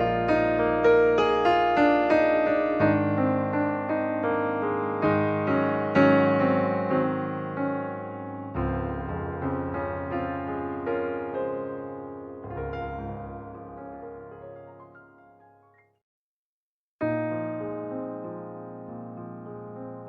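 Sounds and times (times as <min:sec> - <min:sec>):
slow piano music: 0:00.0 - 0:15.9, 0:17.0 - 0:20.0.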